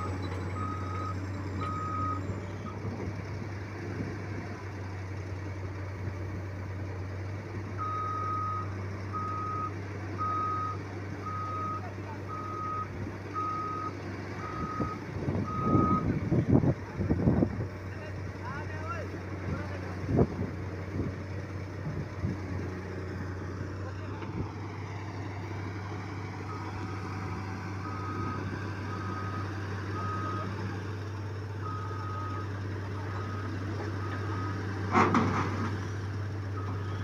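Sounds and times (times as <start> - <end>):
diesel engine hum: 0.0 - 37.0.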